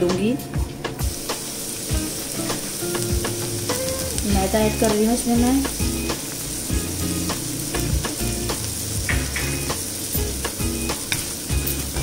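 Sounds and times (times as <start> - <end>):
onions sizzling in butter: 0.0 - 12.0.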